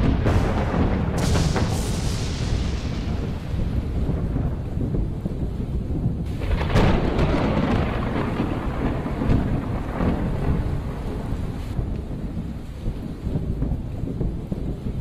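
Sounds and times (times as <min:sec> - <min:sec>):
low rumble: 0:00.0 - 0:15.0
rain: 0:00.0 - 0:15.0
thunder clap: 0:00.0 - 0:15.0.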